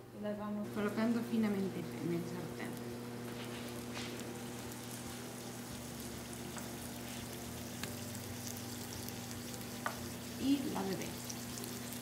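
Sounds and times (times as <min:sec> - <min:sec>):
food sizzling in hot oil: 0:00.9 - 0:12.0.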